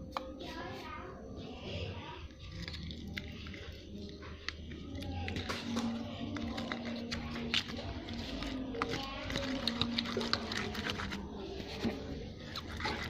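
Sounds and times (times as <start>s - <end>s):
slime being stirred: 0.0s - 13.0s.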